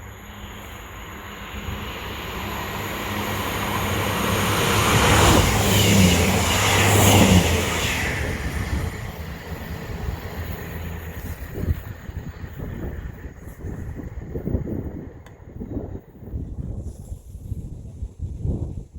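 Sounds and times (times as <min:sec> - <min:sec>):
train wheels rumbling on rail: 0:00.0 - 0:17.2.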